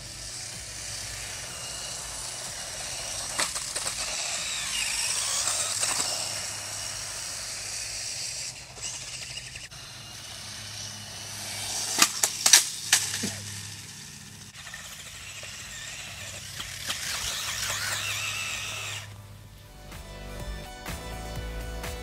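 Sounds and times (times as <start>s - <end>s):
toy car motor and tyres hissing: 0.0s - 19.6s.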